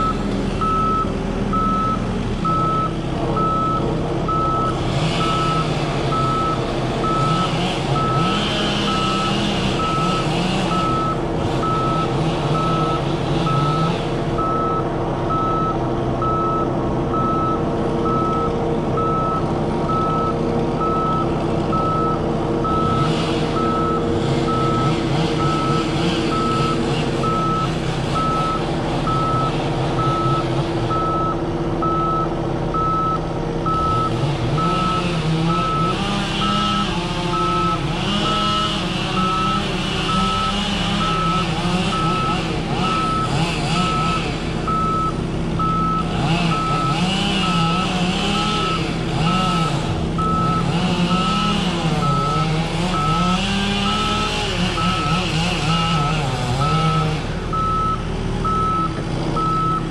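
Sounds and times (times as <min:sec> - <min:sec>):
engine running: 0:00.0 - 0:59.9
reversing alarm beeping: 0:00.0 - 0:59.9.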